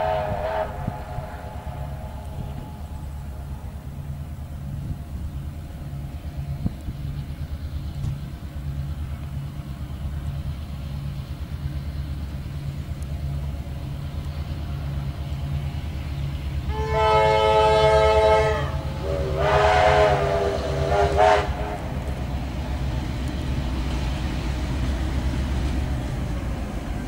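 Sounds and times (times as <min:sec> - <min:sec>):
diesel locomotive engines rumbling: 0:00.0 - 0:27.0.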